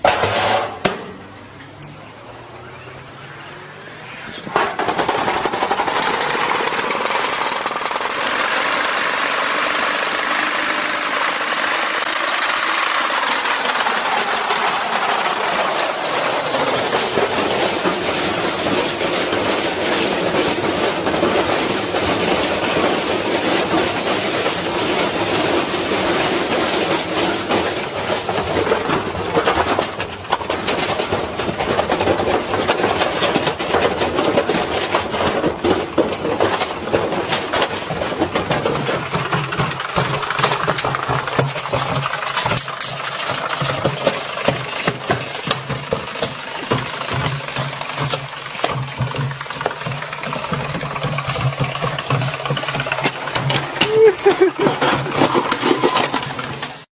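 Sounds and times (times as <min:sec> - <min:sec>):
washing machine banging and rattling: 0:00.0 - 0:03.0, 0:04.3 - 0:56.9.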